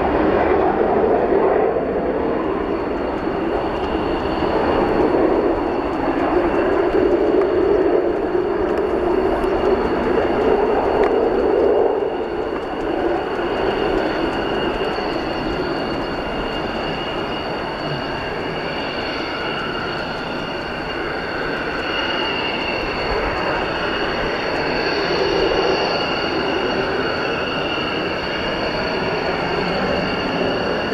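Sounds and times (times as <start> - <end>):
jet engine roar with high whine: 0.0 - 30.9.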